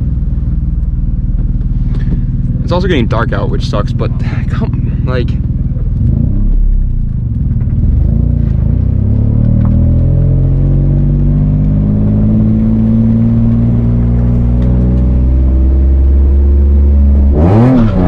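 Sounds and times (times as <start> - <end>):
car engine revving under load: 0.0 - 18.0.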